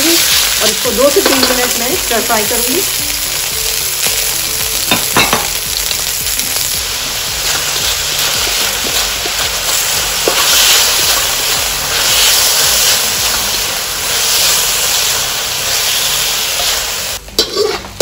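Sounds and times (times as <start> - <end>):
chicken sizzling in oil: 0.0 - 17.8.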